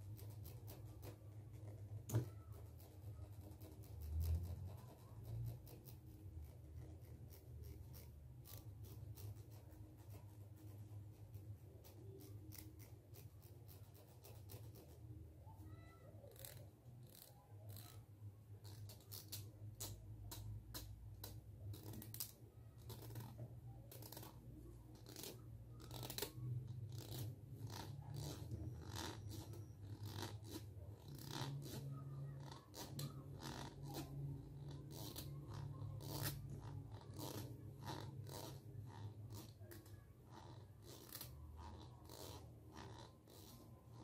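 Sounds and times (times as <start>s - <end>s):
comb scratching a microphone: 0.0s - 15.2s, 21.2s - 44.0s.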